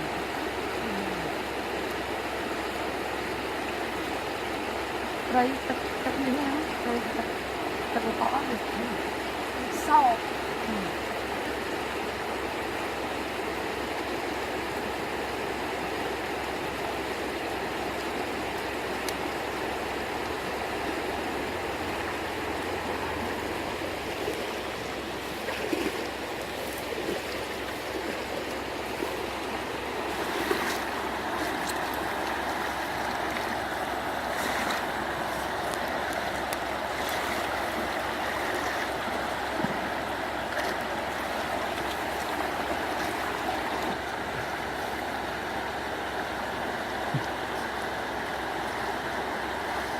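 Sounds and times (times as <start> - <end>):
rush of running water: 0.0 - 49.9.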